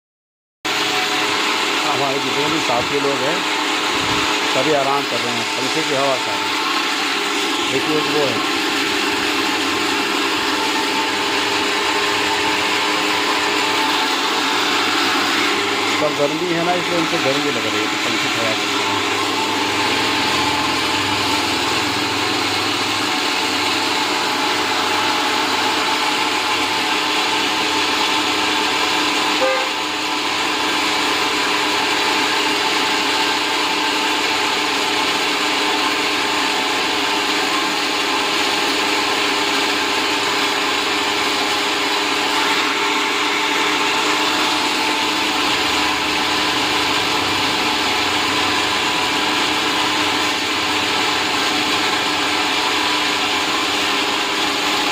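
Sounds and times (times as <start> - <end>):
electric fan running: 0.7 - 54.9.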